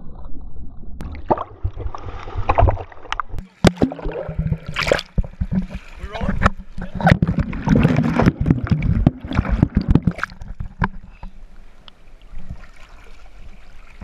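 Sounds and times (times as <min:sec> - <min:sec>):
water lapping: 0:01.0 - 0:14.0
water splashing against camera: 0:01.0 - 0:14.0.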